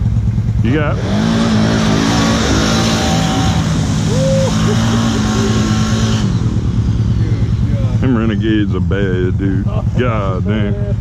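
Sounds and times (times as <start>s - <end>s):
atv engine revving high: 0.0s - 11.0s.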